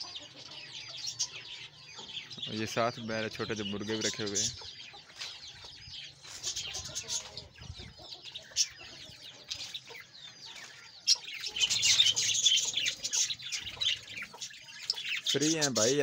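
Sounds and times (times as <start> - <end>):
budgerigars chattering: 0.0 - 16.0
chicks peeping: 0.0 - 16.0.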